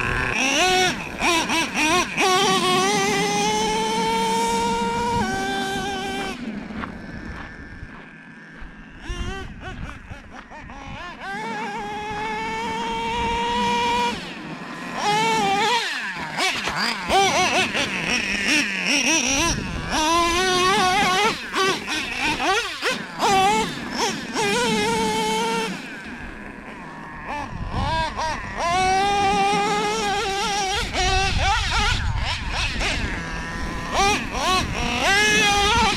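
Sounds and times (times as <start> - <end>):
model engine revving: 0.0 - 35.9.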